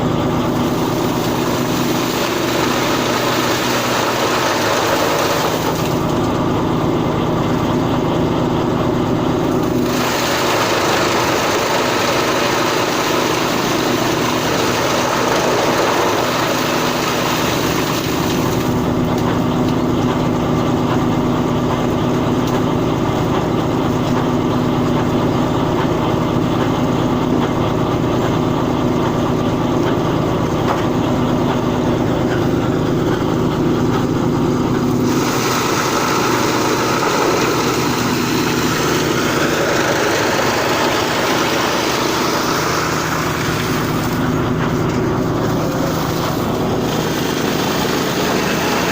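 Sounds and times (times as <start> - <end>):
baler machine humming: 0.0 - 48.9.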